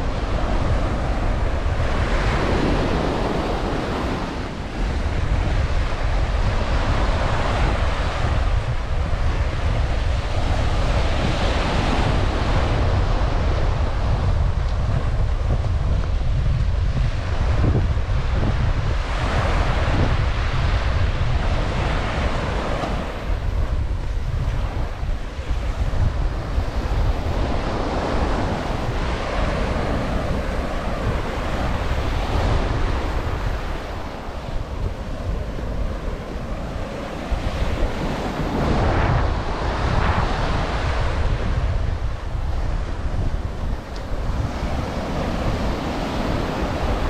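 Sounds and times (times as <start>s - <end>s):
ocean surf breaking on beach: 0.0s - 47.0s
wind buffeting microphone: 0.0s - 47.0s.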